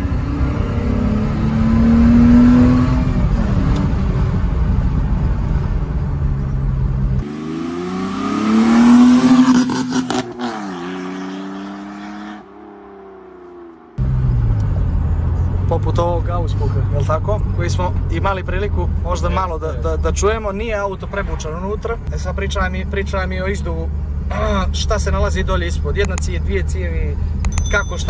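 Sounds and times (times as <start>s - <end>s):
car engine accelerating: 0.0s - 27.5s.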